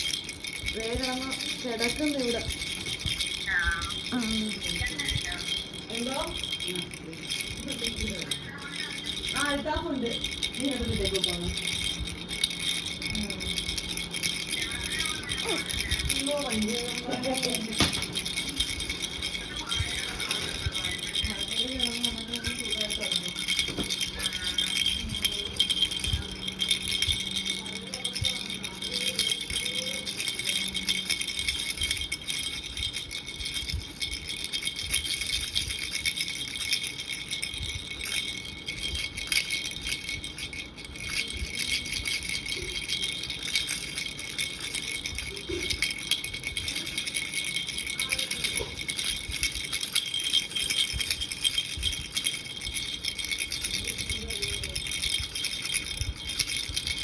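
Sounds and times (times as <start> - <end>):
baby rattle jingling: 0.0 - 57.0.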